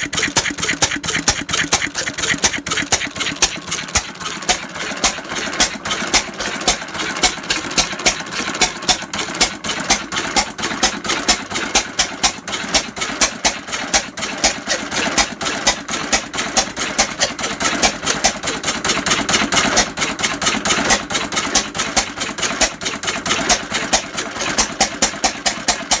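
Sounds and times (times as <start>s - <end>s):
stationary engine clicking and banging: 0.0s - 26.0s.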